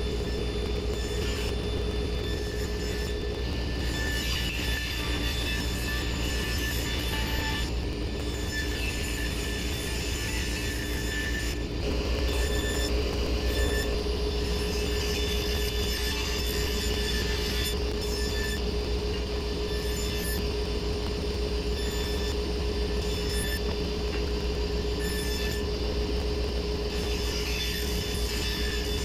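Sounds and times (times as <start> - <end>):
table saw hum and whine: 0.0 - 29.0.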